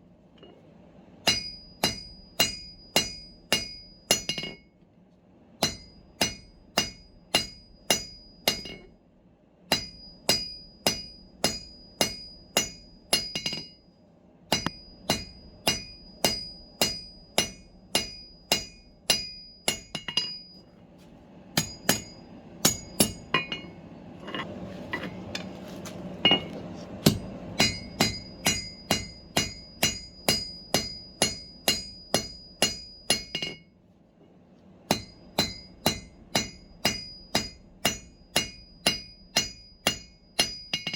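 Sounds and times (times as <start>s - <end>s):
hammer striking steel on anvil: 1.2s - 4.7s, 5.6s - 8.9s, 9.7s - 13.8s, 14.5s - 20.6s, 21.6s - 25.5s, 26.2s - 33.7s, 34.9s - 40.9s.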